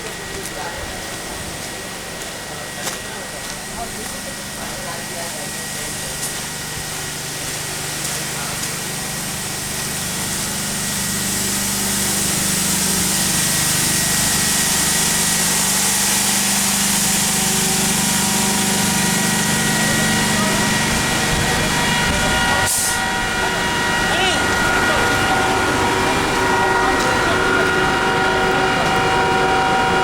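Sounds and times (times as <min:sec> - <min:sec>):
electric train hum: 0:00.0 - 0:30.0
steady high whine: 0:00.0 - 0:30.0.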